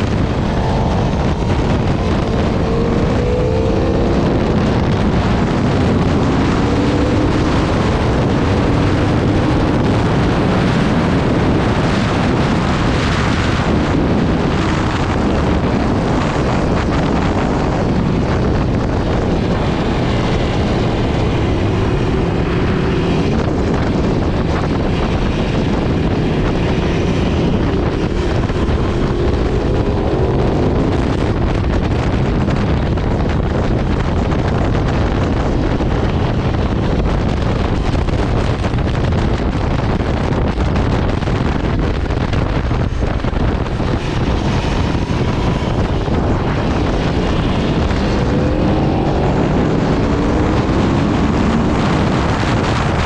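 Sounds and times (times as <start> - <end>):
motorcycle engine accelerating: 0.0 - 53.0
wind rush on microphone: 0.0 - 53.0.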